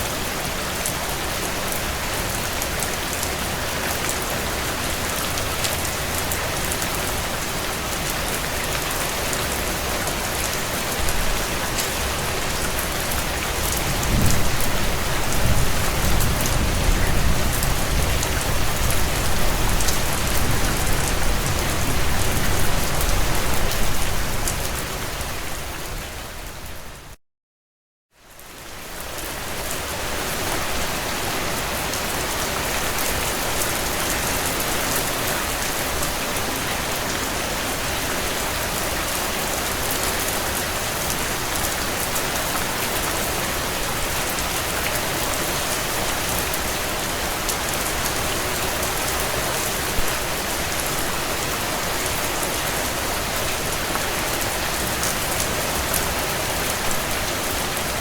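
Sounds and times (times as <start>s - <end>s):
heavy rain on a tin roof: 0.0s - 27.2s, 28.2s - 58.0s.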